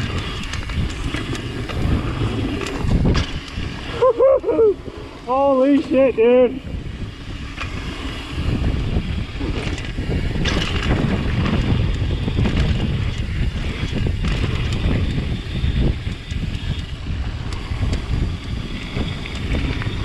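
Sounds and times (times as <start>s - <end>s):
bike rattling over ground: 0.0s - 4.2s, 4.8s - 20.0s
wind buffeting microphone: 0.0s - 20.0s.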